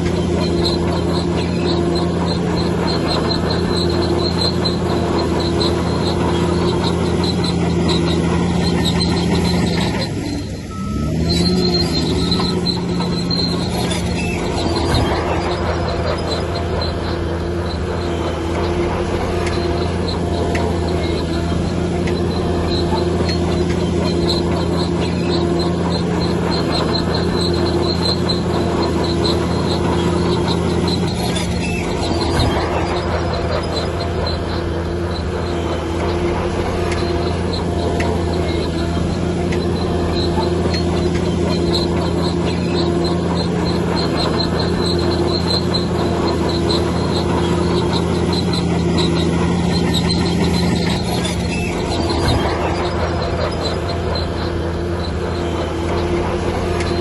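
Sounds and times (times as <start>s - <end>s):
diesel engine droning: 0.0s - 57.0s
short high squeaks: 0.0s - 57.0s.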